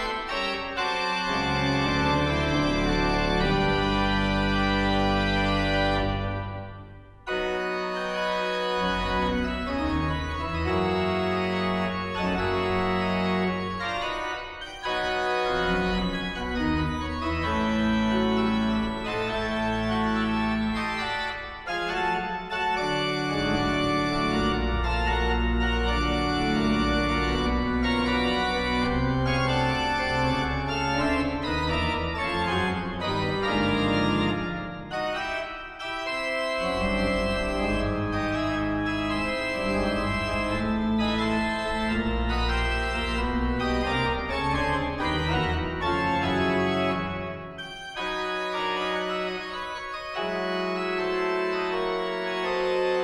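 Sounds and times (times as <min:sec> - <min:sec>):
church organ playing: 0:00.0 - 0:53.0.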